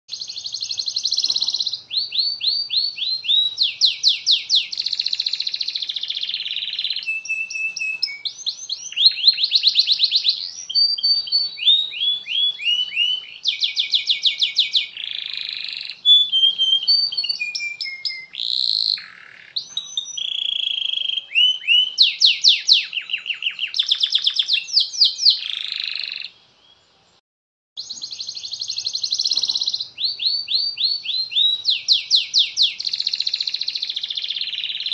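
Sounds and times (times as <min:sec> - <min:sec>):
canary singing trills: 0:00.1 - 0:26.7, 0:27.8 - 0:34.9.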